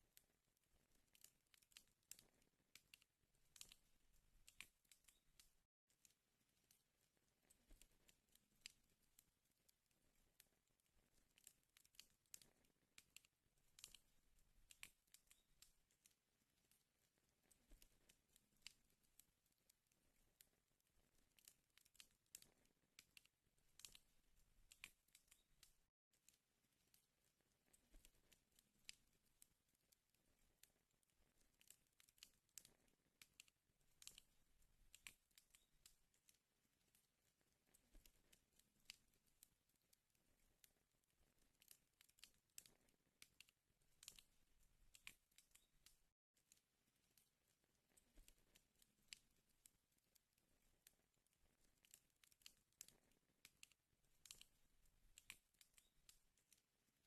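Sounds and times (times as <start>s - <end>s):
wood fire crackling: 0.1s - 25.9s, 26.6s - 49.7s, 50.4s - 56.6s.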